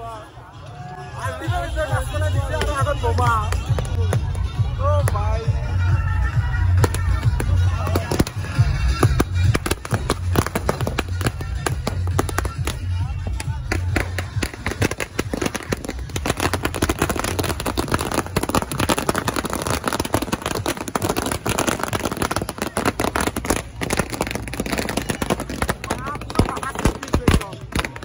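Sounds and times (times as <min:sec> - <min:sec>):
firecrackers barrage: 0:01.4 - 0:28.0.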